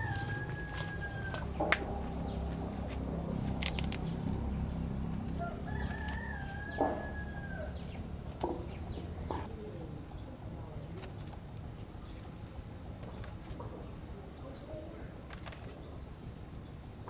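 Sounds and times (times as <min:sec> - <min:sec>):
insect trilling: 0:00.0 - 0:17.0.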